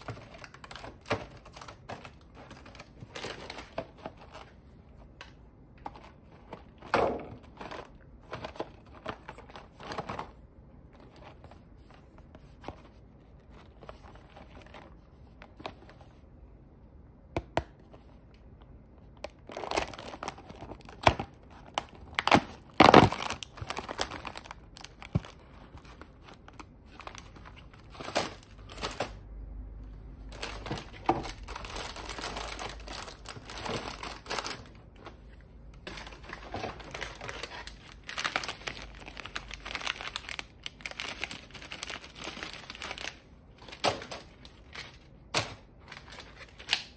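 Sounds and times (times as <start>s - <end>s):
plastic wrappers crinkling: 0.0s - 16.1s, 19.1s - 29.2s, 30.2s - 46.9s.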